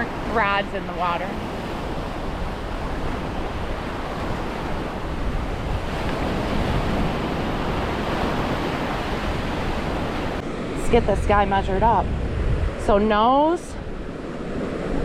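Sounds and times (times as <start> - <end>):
surf breaking on beach: 0.0 - 15.0
wind on microphone: 0.0 - 15.0.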